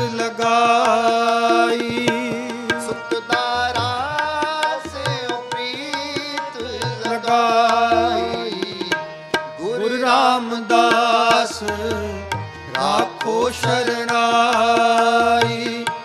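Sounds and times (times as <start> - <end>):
harmonium holding chords: 0.0 - 16.0
tabla steady rhythm: 0.0 - 16.0.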